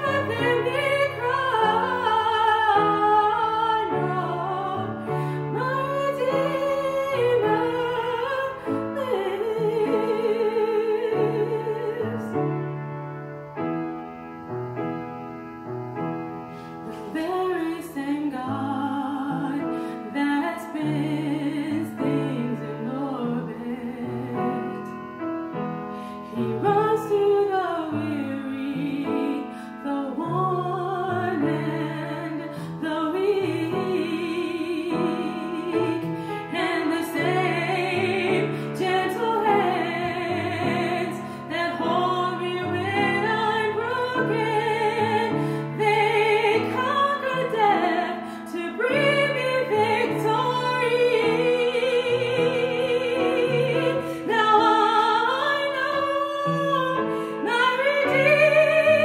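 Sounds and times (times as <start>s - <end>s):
woman singing with vibrato: 0.0s - 12.8s, 16.8s - 59.0s
upright piano: 0.0s - 59.0s.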